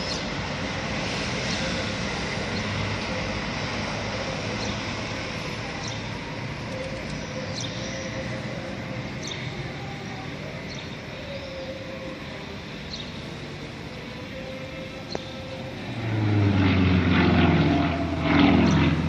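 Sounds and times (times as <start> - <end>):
distant propeller plane droning: 0.0 - 19.0.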